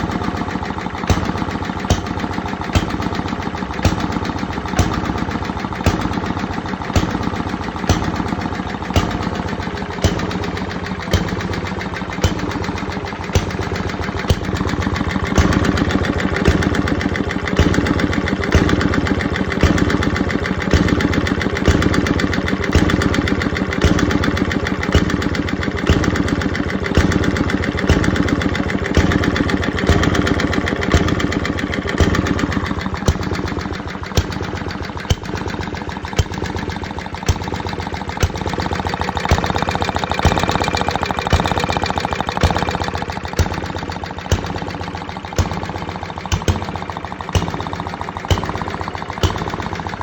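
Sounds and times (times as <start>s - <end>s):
engine mechanical clatter: 0.0s - 50.0s.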